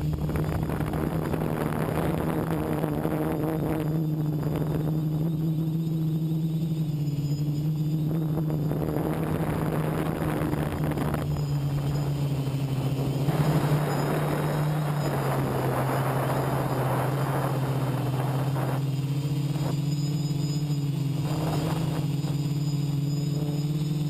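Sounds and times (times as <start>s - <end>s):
drone motors humming: 0.0s - 24.0s
wind noise on microphone: 0.0s - 24.0s.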